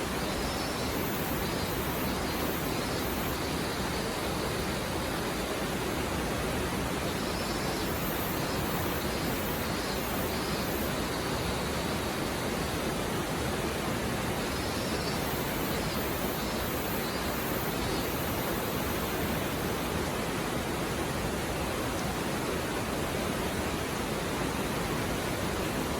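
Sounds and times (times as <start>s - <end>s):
stream flowing: 0.0s - 25.9s.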